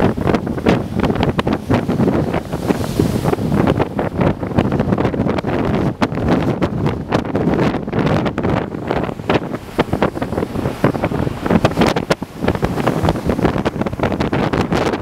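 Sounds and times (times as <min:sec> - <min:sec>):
rough sea rushing: 0:00.0 - 0:15.0
wind buffeting microphone: 0:00.0 - 0:15.0.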